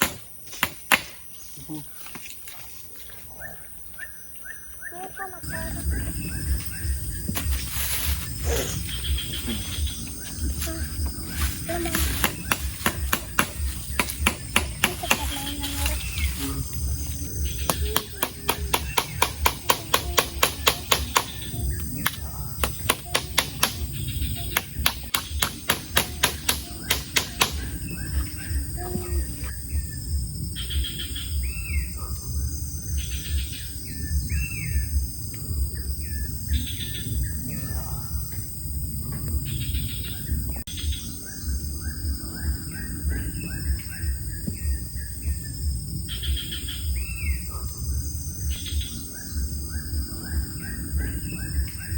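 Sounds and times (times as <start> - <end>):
birds calling: 0.0 - 51.9.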